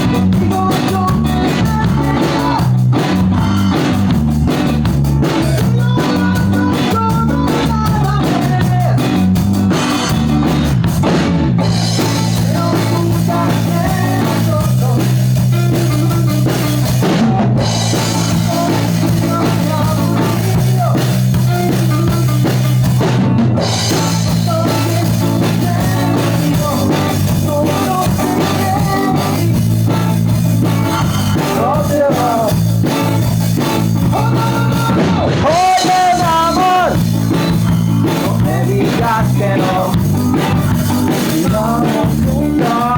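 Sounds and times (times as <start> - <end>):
rock music with singing: 0.0 - 42.9.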